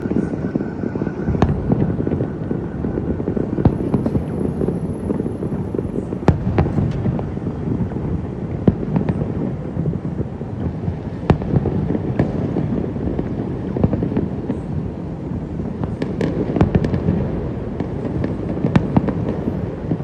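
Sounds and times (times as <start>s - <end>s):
fireworks bangs: 0.0s - 20.0s
fireworks rumbling: 0.0s - 20.0s.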